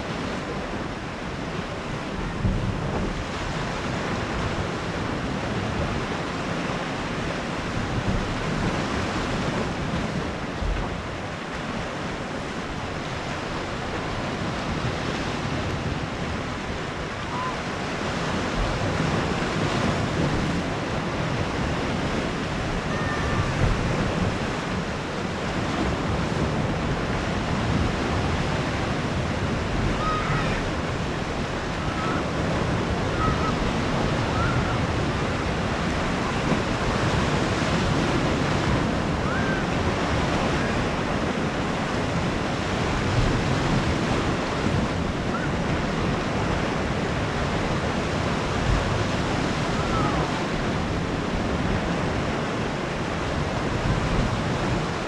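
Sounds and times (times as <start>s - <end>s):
sea waves washing on beach: 0.0s - 55.0s
wind buffeting microphone: 0.0s - 55.0s.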